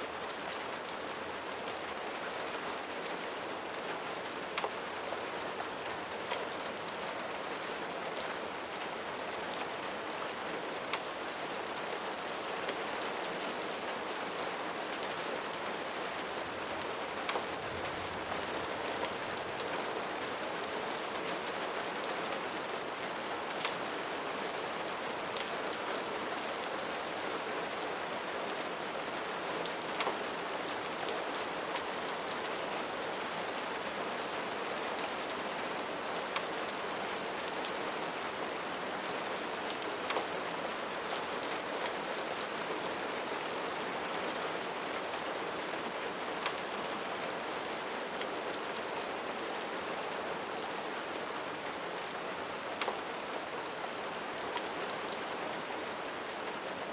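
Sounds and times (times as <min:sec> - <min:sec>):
rain hissing on a surface: 0:00.0 - 0:56.9.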